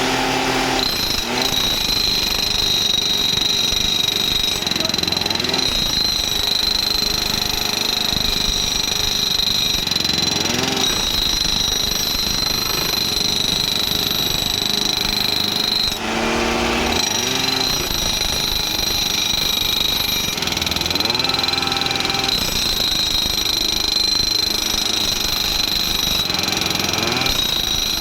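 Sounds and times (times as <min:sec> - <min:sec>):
steady high whine: 0:00.0 - 0:28.0.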